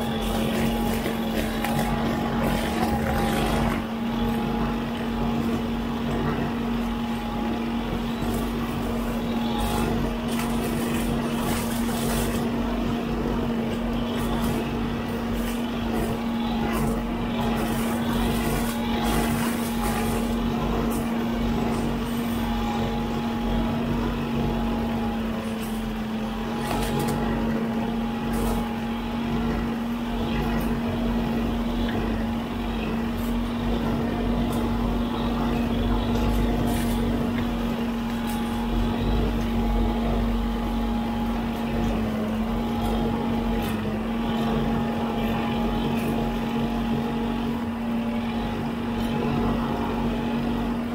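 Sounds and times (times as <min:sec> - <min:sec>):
brush cutter drone: 0:00.0 - 0:50.9
high whine: 0:00.0 - 0:50.9.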